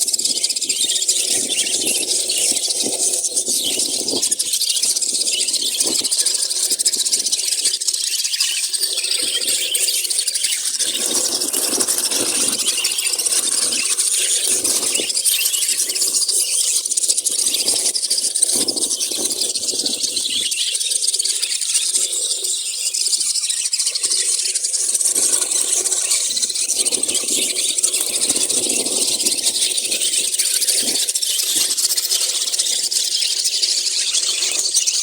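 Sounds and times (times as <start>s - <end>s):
caged birds chirping and screeching: 0.1s - 35.0s.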